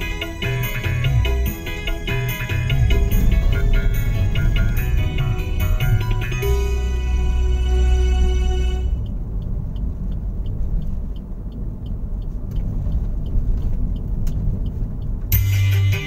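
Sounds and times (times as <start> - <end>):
road and engine noise: 0.0 - 16.0.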